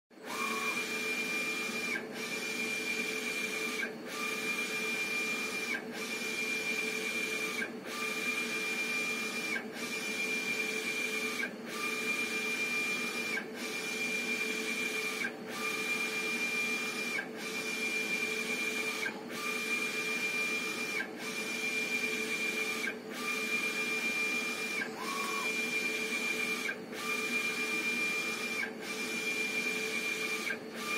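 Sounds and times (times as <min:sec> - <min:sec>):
printer carriage whine: 0:00.2 - 0:30.9.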